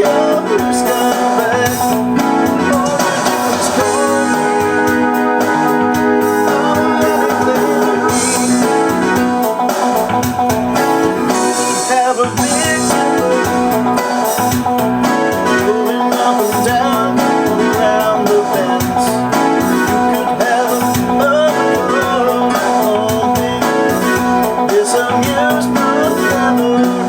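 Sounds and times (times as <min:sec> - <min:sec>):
keyboard sequencer backing track: 0:00.0 - 0:27.0
piano chords: 0:00.0 - 0:27.0.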